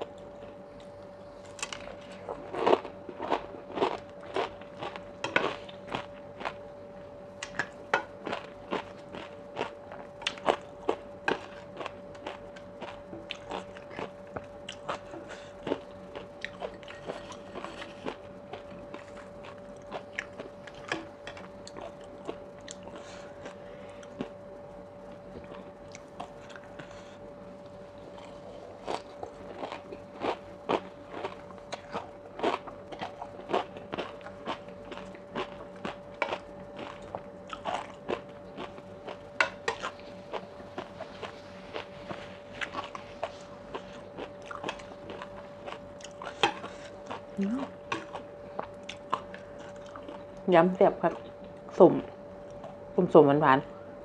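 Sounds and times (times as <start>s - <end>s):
person chewing crunchy food: 0.0s - 24.4s, 25.0s - 50.5s
faint steady hum: 0.0s - 54.0s.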